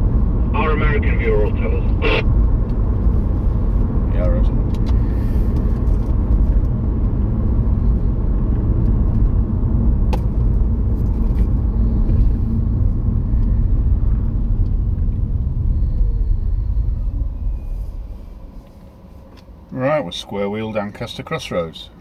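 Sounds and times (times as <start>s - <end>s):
road and engine rumble over radio: 0.0s - 22.0s.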